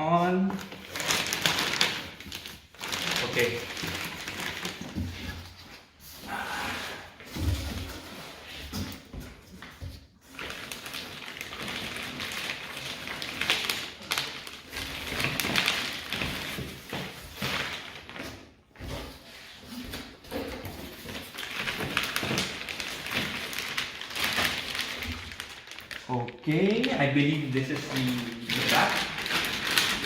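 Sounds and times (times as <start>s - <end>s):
packaging rustling and scraping: 0.5s - 6.3s, 7.2s - 30.0s.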